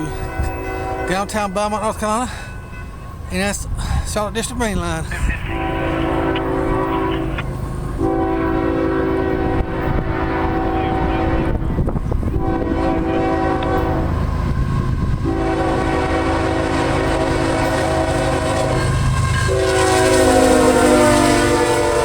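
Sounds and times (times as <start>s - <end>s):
locomotive horn blasts: 0.0s - 1.8s, 5.1s - 22.0s
low rumble of train: 0.0s - 22.0s.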